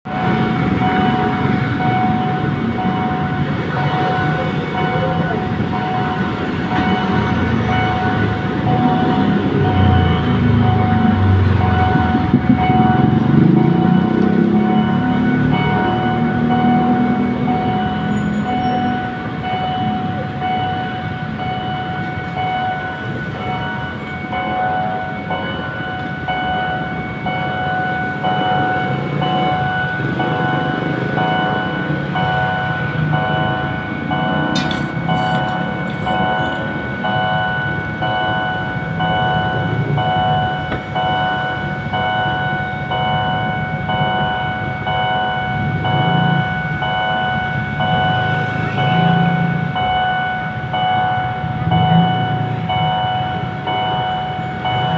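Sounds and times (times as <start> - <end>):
crossing warning signal tones: 0.1 - 54.9
train rumbling past: 0.1 - 54.9.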